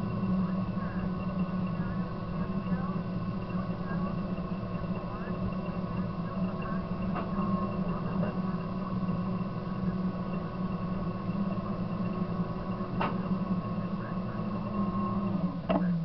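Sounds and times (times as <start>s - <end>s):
bulldozer diesel engine running: 0.0s - 16.0s
thin steady whine: 0.0s - 16.0s.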